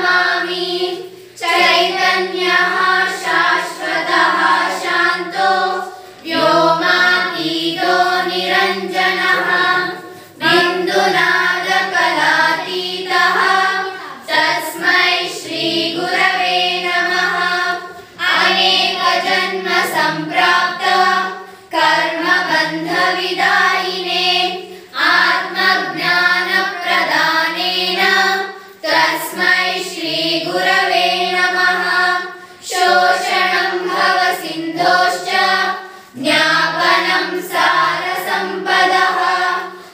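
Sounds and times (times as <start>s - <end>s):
children singing together: 0.0s - 39.9s.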